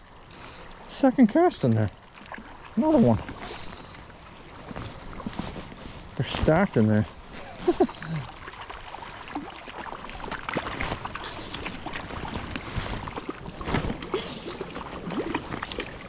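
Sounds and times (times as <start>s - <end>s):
splashing in shallow water: 0.0s - 16.0s
stream rushing: 2.4s - 16.0s.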